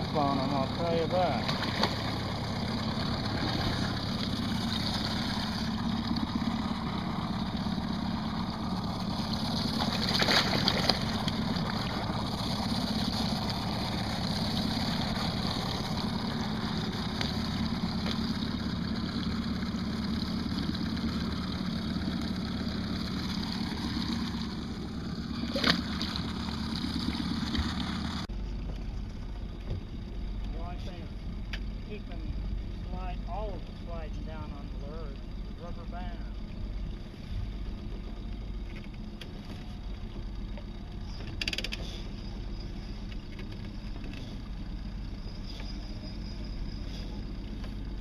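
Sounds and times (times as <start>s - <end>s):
outboard motor running: 0.0s - 48.0s
water noise: 0.0s - 48.0s.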